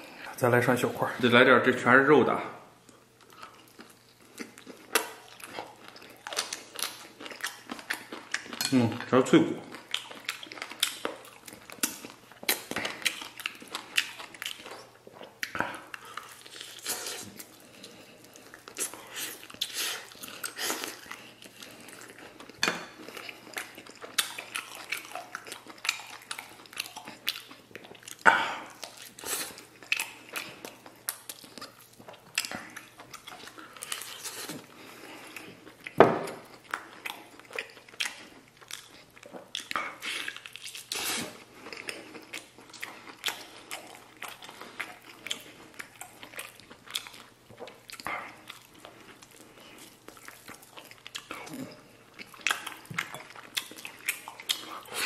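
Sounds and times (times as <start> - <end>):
man chewing meat off bone: 2.8 - 8.7, 9.6 - 55.0.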